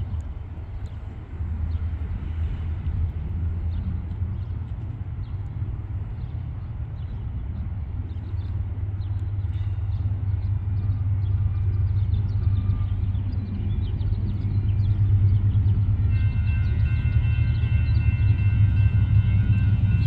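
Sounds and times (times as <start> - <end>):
diesel locomotive engines rumbling: 0.0 - 20.0.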